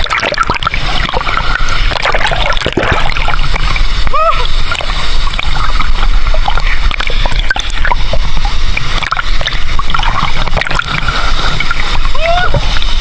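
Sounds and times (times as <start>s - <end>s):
rumble of falling water: 0.0s - 13.0s
water splashing in pool: 0.0s - 13.0s.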